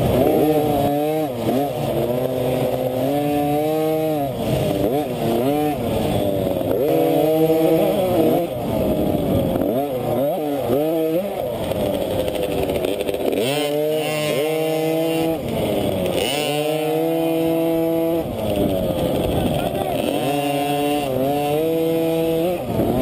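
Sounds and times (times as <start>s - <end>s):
minibike engine revving: 0.0s - 23.0s.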